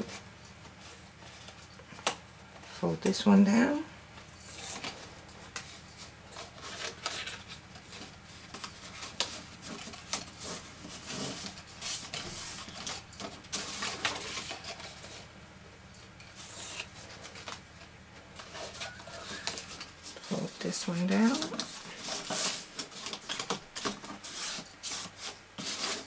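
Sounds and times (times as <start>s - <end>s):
card rubbing and rustling: 4.2s - 15.4s, 16.1s - 26.0s.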